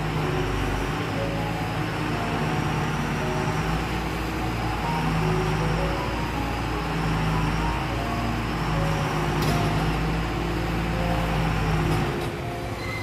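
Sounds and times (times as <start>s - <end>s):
background music: 0.0s - 13.0s
truck diesel engine rumbling: 0.0s - 13.0s.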